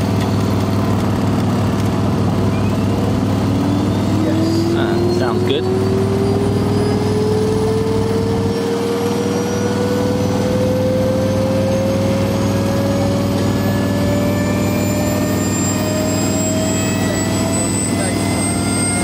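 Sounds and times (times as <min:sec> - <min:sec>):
turbine whine rising: 0:00.0 - 0:19.0.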